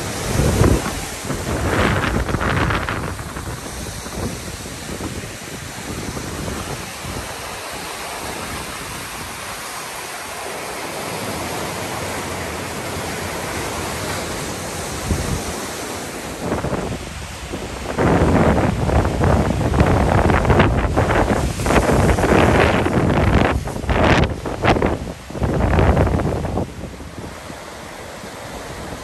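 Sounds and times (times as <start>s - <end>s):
wind on microphone: 0.0s - 9.7s, 13.3s - 29.0s
water rushing over dam: 0.0s - 29.0s.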